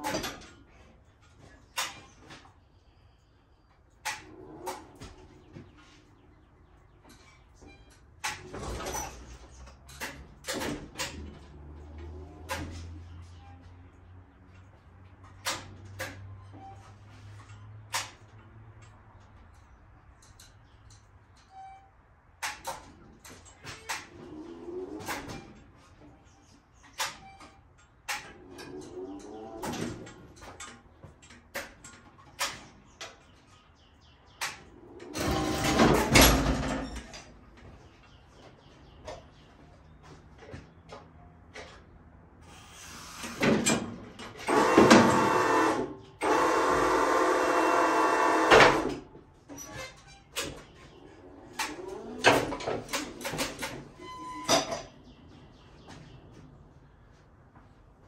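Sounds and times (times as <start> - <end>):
forklift clicks and clunks: 0.0 - 2.5, 3.9 - 13.6, 14.5 - 33.7, 34.3 - 38.2, 43.0 - 55.0.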